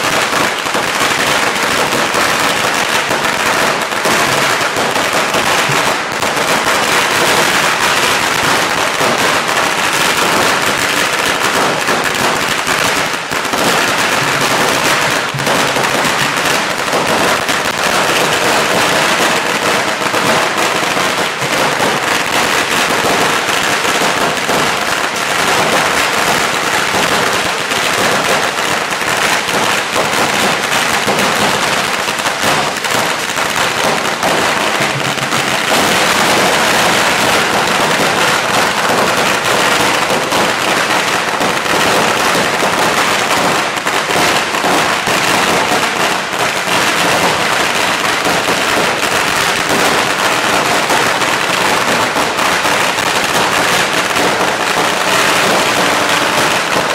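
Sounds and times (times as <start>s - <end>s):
firecrackers crackling: 0.0s - 56.9s.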